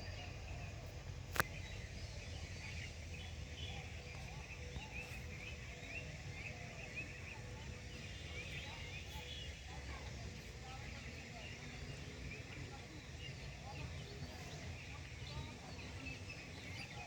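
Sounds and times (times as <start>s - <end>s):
many birds chirping: 0.0s - 17.0s.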